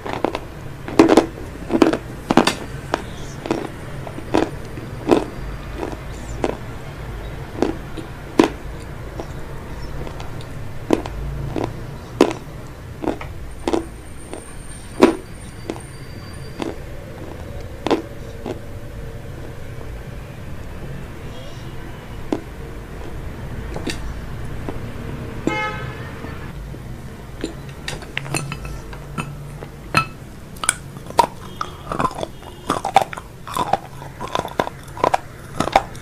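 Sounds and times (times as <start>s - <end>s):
person chewing: 0.0s - 19.7s, 22.2s - 25.0s, 26.7s - 36.0s
steady low hum: 0.0s - 36.0s.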